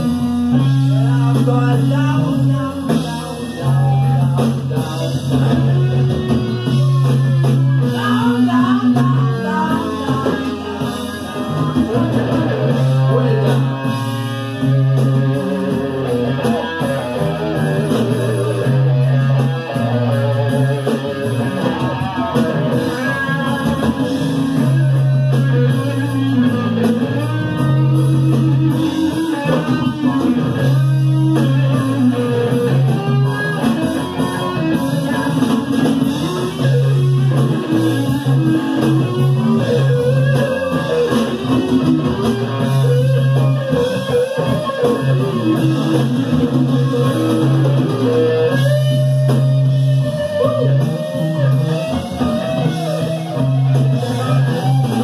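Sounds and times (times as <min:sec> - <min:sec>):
live rock band instrumental: 0:00.0 - 0:55.0.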